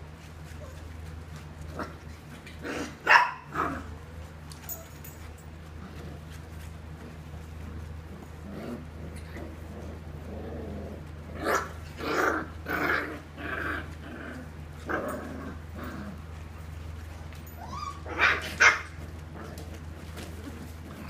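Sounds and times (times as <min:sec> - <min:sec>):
puppies barking and growling: 0:00.1 - 0:21.0.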